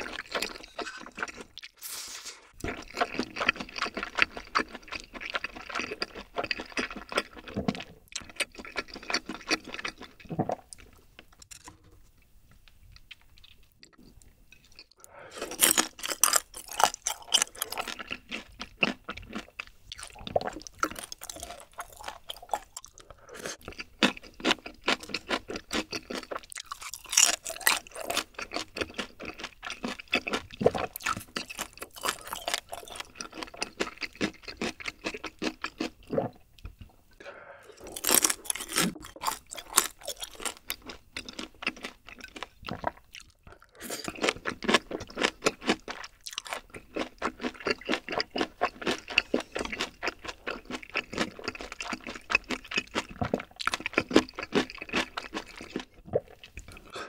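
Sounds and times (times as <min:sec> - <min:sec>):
close-miked chewing noodles: 0:00.0 - 0:11.3, 0:12.6 - 0:57.0.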